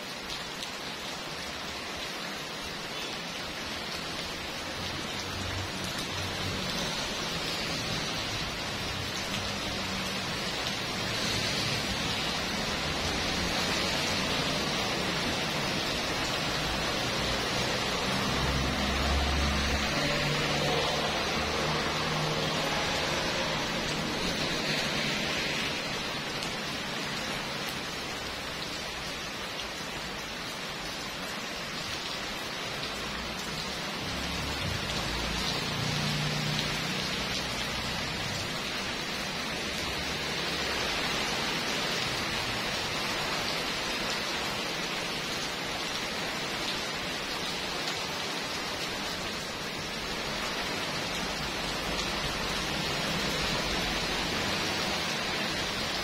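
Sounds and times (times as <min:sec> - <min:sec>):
heavy rain on street and roofs: 0:00.0 - 0:56.0.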